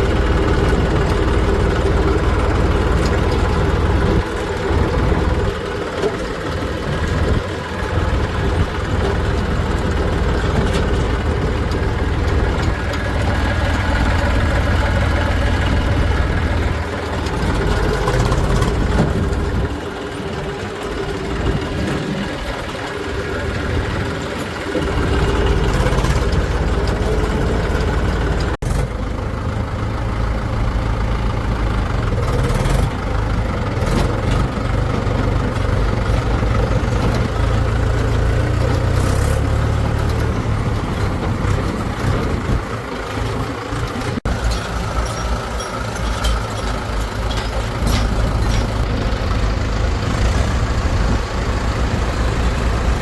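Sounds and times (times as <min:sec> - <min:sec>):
diesel engine rumbling: 0:00.0 - 0:53.0.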